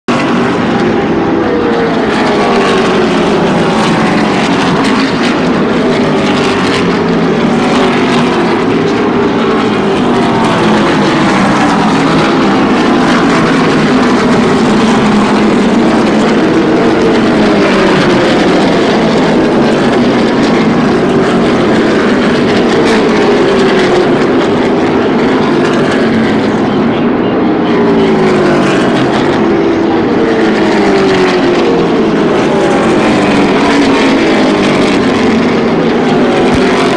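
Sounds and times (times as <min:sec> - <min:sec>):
racing car engines: 0:00.1 - 0:36.9.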